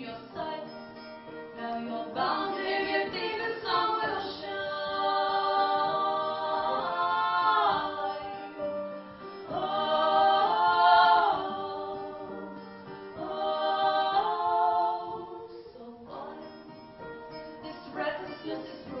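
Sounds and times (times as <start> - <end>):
acoustic accompaniment: 0.0 - 19.0
voices singing in harmony: 0.0 - 19.0.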